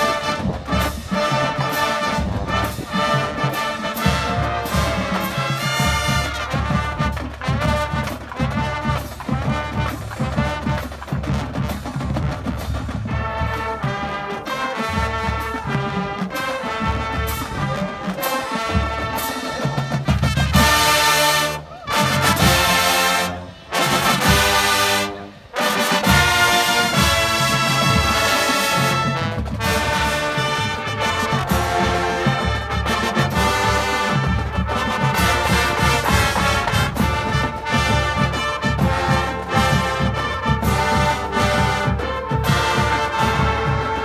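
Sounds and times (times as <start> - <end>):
brass section: 0.0 - 44.0
drumline: 0.0 - 44.0
marching band playing: 0.0 - 44.0.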